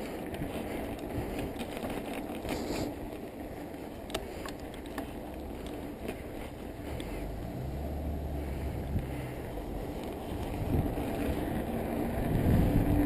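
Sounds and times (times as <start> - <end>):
bike clicks and rattles: 0.0 - 13.0
wind and tyre noise: 0.0 - 13.0.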